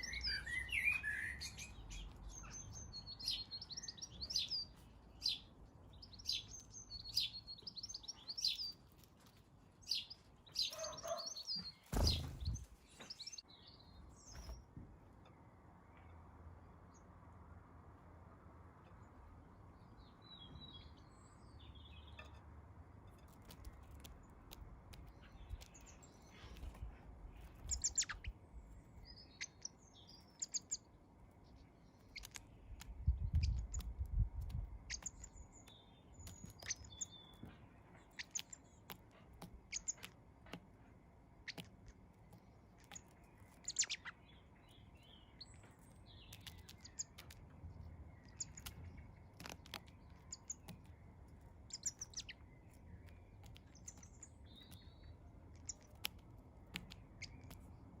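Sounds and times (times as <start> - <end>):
birds chirping and twittering: 0.0 - 17.1, 18.9 - 58.0.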